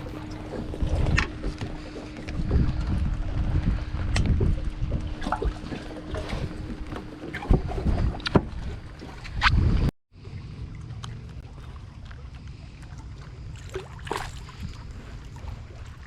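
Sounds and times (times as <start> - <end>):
steady low hum: 0.0 - 16.0
wind rumbling on microphone: 0.0 - 16.0.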